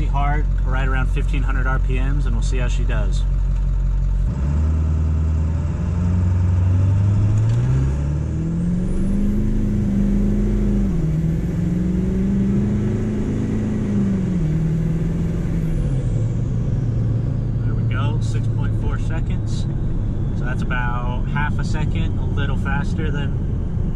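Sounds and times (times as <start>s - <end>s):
diesel truck engine accelerating: 0.0s - 23.9s.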